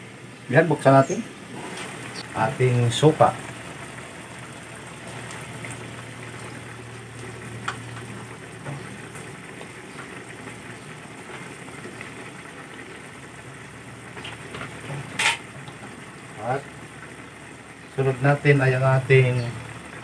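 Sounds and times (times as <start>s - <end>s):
liquid bubbling and sizzling in pan: 0.0s - 20.0s.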